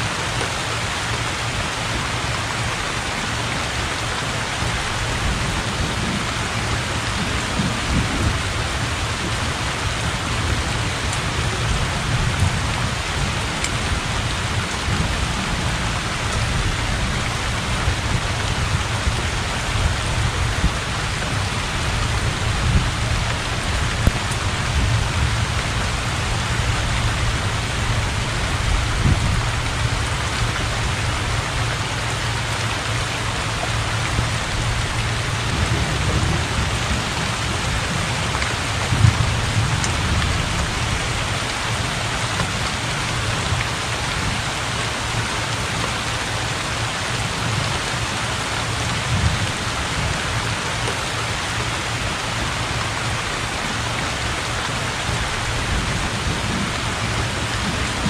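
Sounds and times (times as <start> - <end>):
heavy rain on water and roof: 0.0 - 58.0.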